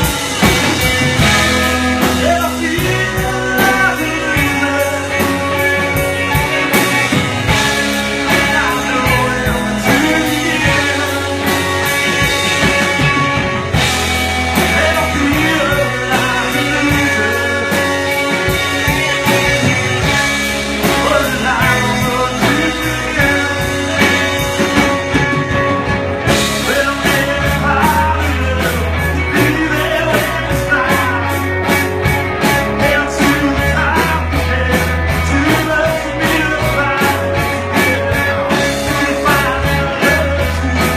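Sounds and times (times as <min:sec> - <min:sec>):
indie rock song: 0:00.0 - 0:40.9.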